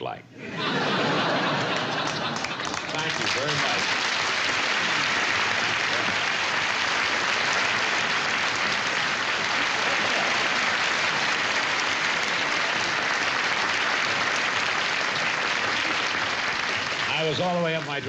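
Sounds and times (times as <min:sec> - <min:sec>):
audience applauding: 0:00.6 - 0:18.0.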